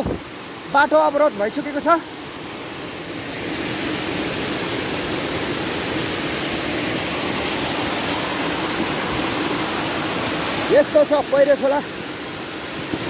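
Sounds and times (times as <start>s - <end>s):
floodwater rushing over rocks: 0.0s - 13.0s.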